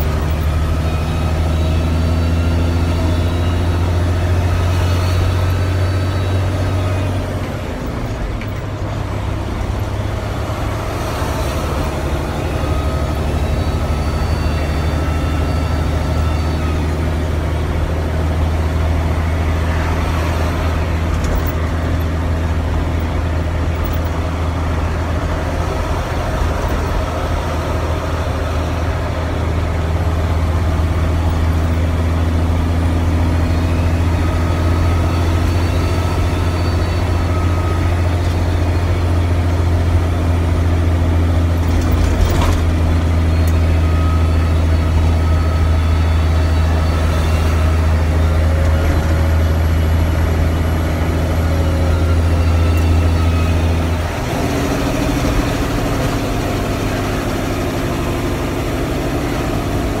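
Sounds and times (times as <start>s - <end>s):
diesel truck engine drone: 0.0s - 60.0s.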